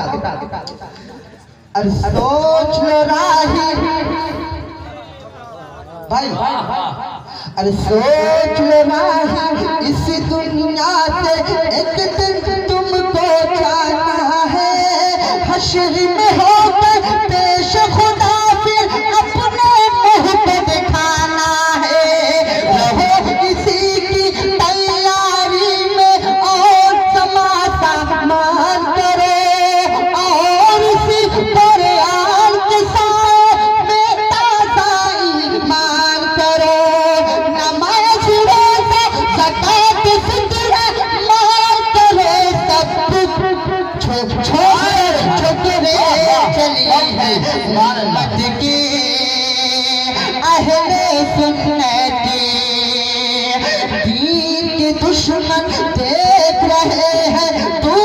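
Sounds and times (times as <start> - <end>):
man singing devotional song: 0.0 - 4.9, 6.0 - 58.0.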